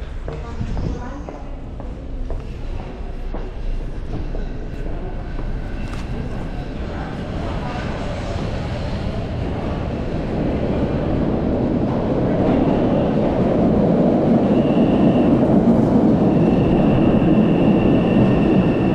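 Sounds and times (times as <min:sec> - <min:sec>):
subway train rumble: 0:00.0 - 0:18.9.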